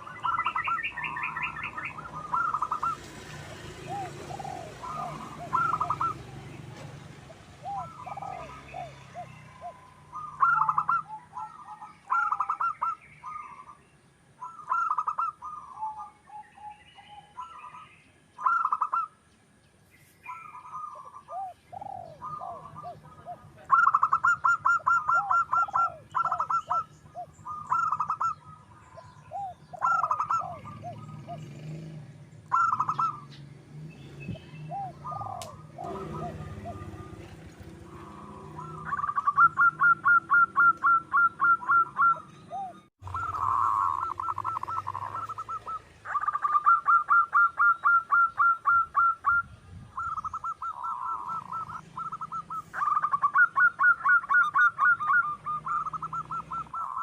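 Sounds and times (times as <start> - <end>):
doves cooing: 0.0 - 19.3, 20.2 - 57.0.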